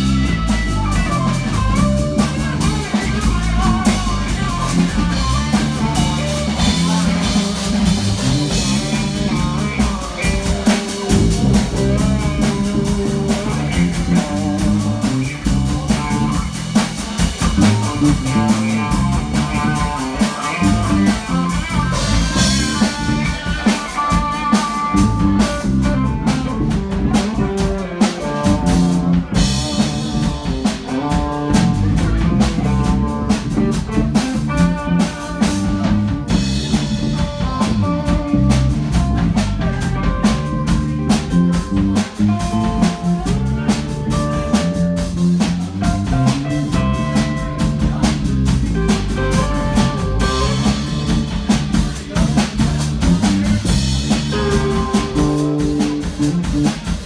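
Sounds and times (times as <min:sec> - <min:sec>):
drum kit beat: 0:00.0 - 0:57.0
guitar: 0:00.0 - 0:57.0
live band playing: 0:00.0 - 0:57.0.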